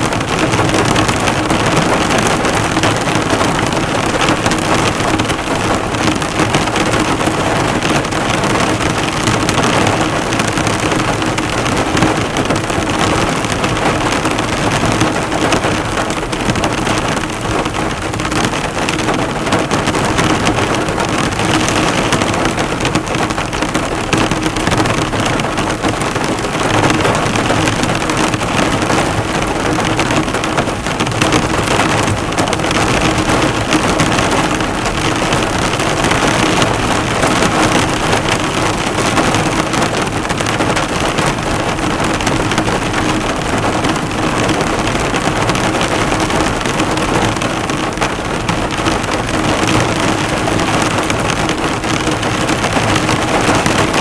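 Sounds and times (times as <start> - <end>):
heavy rain falling on a car: 0.0 - 54.0.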